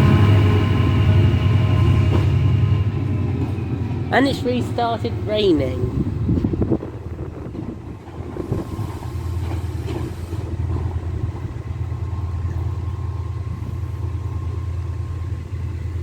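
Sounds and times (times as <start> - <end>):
locomotive engine humming: 0.0 - 16.0.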